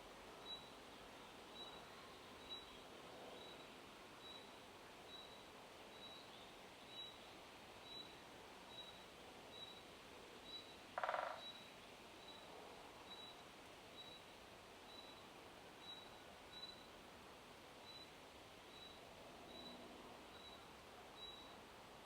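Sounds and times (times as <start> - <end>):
wind in leaves: 0.0 - 22.0.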